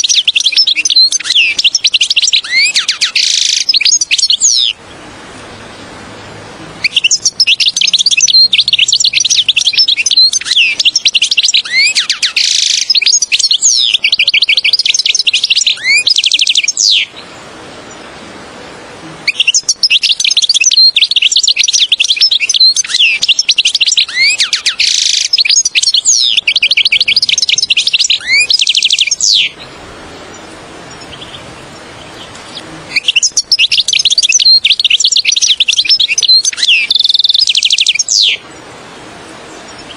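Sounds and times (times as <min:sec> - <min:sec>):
goldfinch twittering song: 0:00.0 - 0:04.9, 0:06.8 - 0:18.1, 0:19.2 - 0:38.7, 0:39.5 - 0:39.9.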